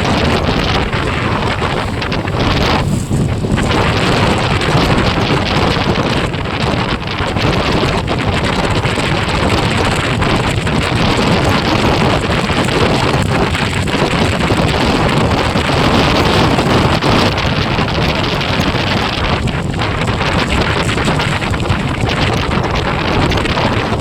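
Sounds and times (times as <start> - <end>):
wind roaring over microphone: 0.0 - 24.0.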